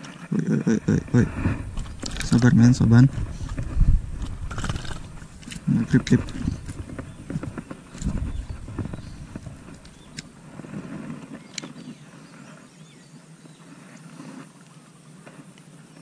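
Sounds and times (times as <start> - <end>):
rustling against microphone: 0.0 - 16.0.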